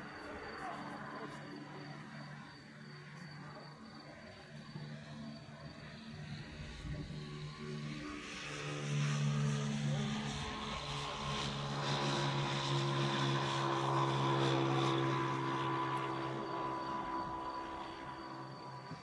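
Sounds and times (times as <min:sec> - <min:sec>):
engine drone with whine: 0:00.0 - 0:19.0.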